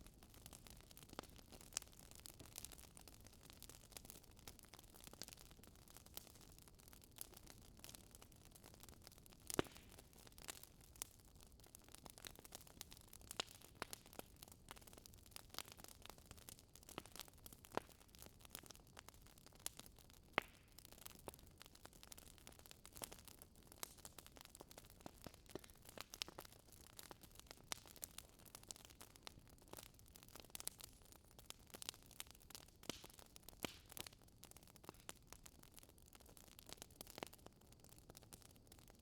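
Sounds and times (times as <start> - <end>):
fire popping: 0.0 - 39.0
wood fire crackling: 0.0 - 39.0.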